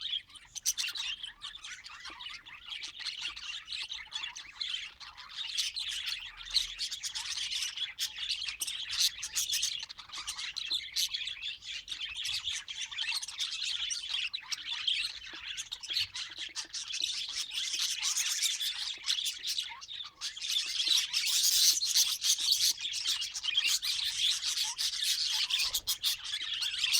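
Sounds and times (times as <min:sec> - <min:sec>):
budgerigars chirping: 0:00.0 - 0:26.9.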